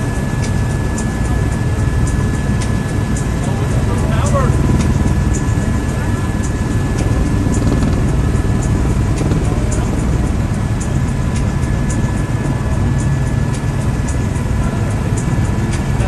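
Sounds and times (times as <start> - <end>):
helicopter engine and rotor rumble: 0.0 - 16.0
thin steady whine: 0.0 - 16.0.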